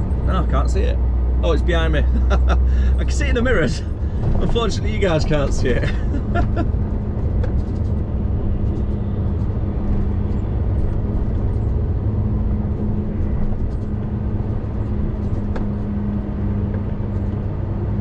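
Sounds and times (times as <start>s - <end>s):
road noise: 0.0s - 18.0s
truck diesel engine drone: 0.0s - 18.0s.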